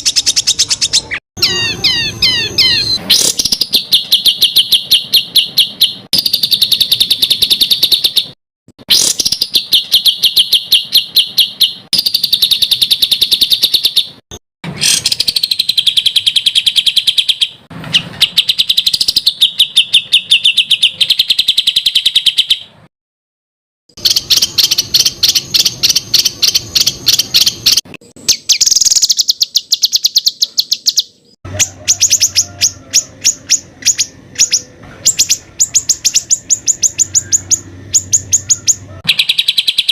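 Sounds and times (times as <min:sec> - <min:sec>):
songbird singing rapid notes: 0:00.0 - 0:14.2, 0:14.8 - 0:22.7, 0:24.0 - 0:39.9.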